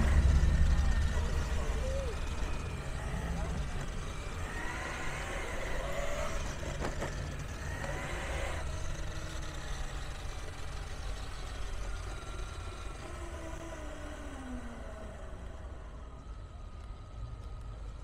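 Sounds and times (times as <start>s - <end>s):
gear drive whine: 0.0s - 18.0s
wheels rumbling over concrete: 0.0s - 18.0s.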